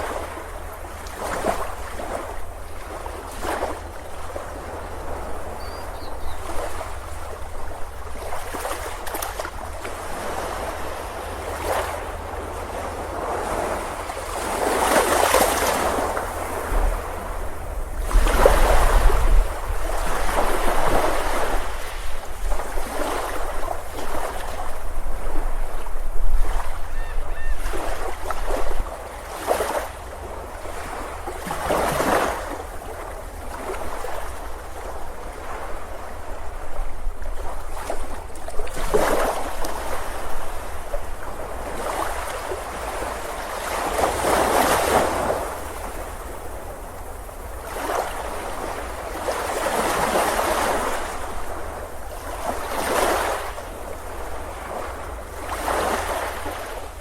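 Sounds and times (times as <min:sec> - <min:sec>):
waves breaking on a beach: 0:00.0 - 0:57.0
wind rumble on microphone: 0:00.0 - 0:57.0.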